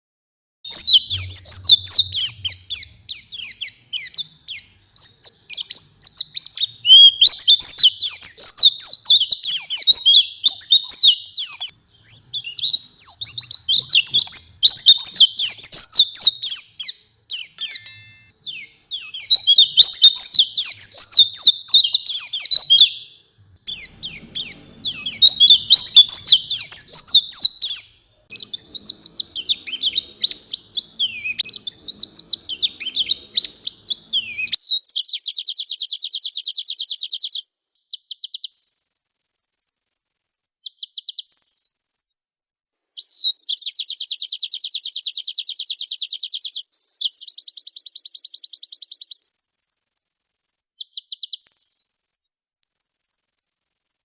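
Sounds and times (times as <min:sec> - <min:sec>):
bird twittering song: 0:00.7 - 0:42.1, 0:43.0 - 0:54.0.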